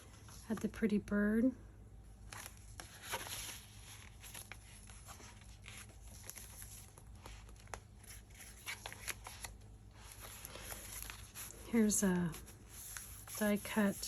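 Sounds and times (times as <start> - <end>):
paper and card rustling: 2.2 - 14.0.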